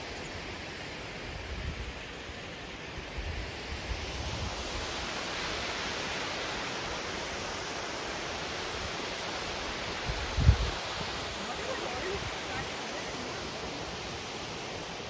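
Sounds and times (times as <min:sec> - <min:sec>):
waterfall rushing: 0:02.0 - 0:15.0.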